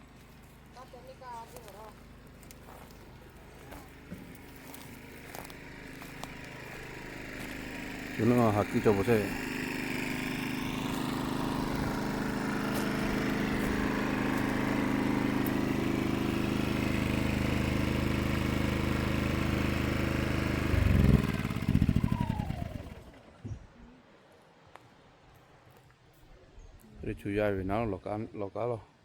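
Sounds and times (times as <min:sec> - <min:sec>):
small engine running: 0:00.0 - 0:23.4.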